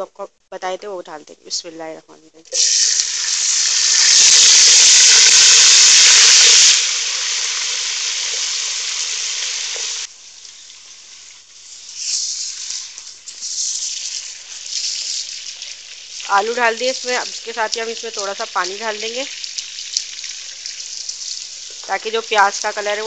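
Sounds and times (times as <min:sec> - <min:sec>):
potatoes sizzling in hot oil: 0:02.5 - 0:23.0.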